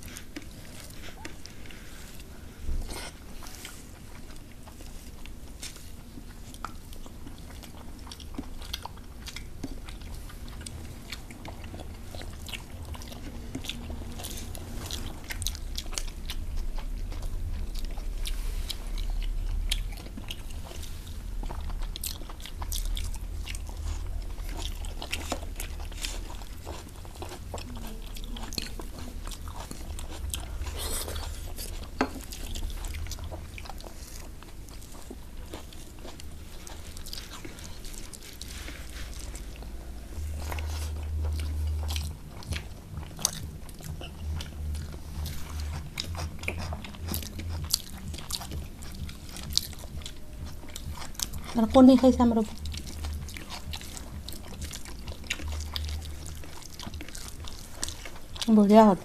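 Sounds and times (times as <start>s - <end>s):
chewing and biting food: 0.0s - 59.0s.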